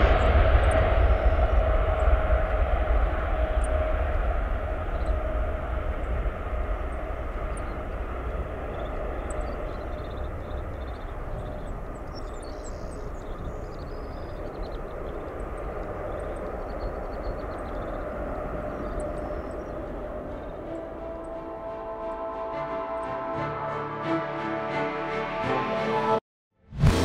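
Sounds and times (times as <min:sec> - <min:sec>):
jet engines at takeoff thrust: 0:00.0 - 0:22.2.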